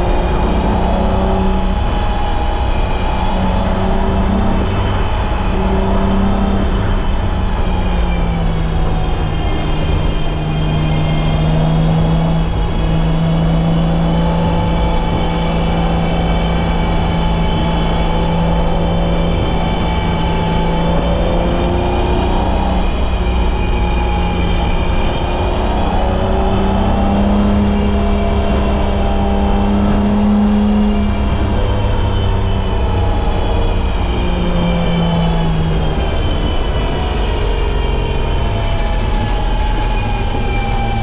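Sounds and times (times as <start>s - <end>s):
car engine running under load: 0.0s - 41.0s.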